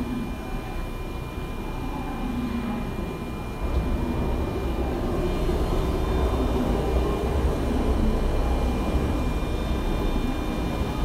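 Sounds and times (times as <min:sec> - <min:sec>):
electric train rumble: 0:00.0 - 0:11.0
faint steady whine: 0:00.0 - 0:11.0.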